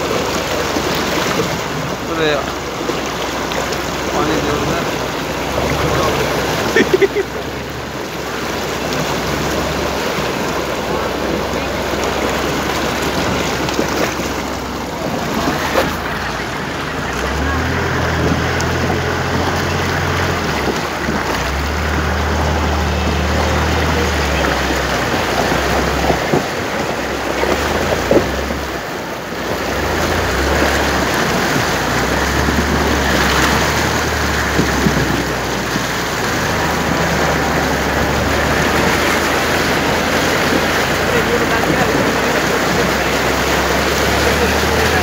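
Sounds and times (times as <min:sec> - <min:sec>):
floodwater surging and splashing: 0:00.0 - 0:45.0
vehicle engine hum: 0:00.0 - 0:45.0.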